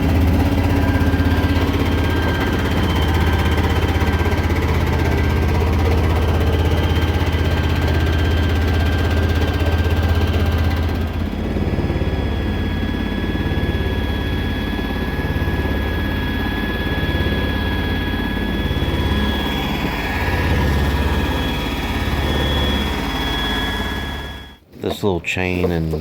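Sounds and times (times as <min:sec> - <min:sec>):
truck engine running: 0:00.0 - 0:24.6
high whine: 0:00.0 - 0:26.0.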